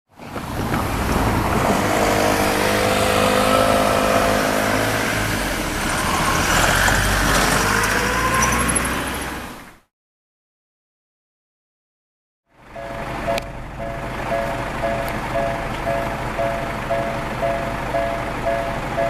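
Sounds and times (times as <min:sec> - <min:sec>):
vehicle motor whine: 0:00.3 - 0:09.4, 0:12.5 - 0:19.0.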